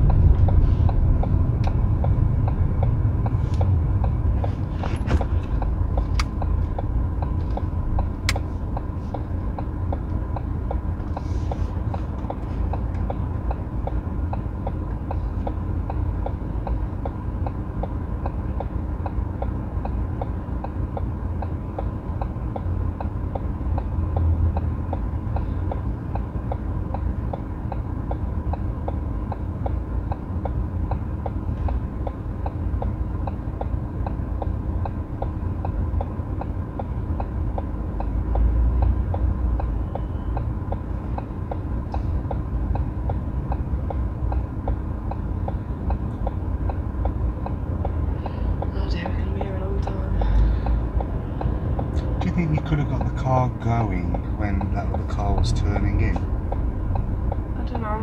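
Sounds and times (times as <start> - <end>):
car indicator ticking: 0.0 - 4.5, 5.1 - 58.0
low engine rumble: 0.0 - 58.0.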